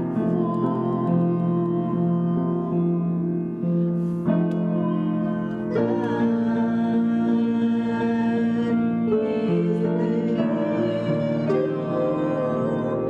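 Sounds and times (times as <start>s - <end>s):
keyboard sustained chords: 0.0s - 13.0s.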